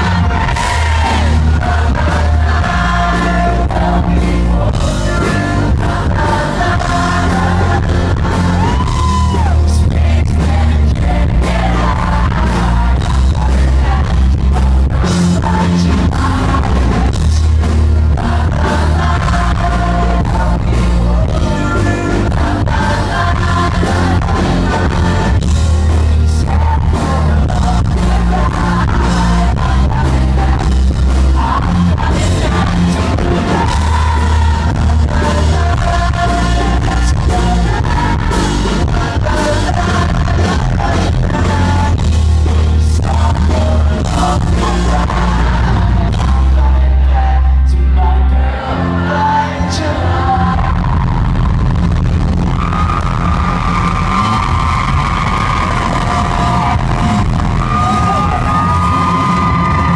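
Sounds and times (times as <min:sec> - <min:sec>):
person singing: 0:00.0 - 0:51.6
live pop-rock band playing: 0:00.0 - 0:59.9.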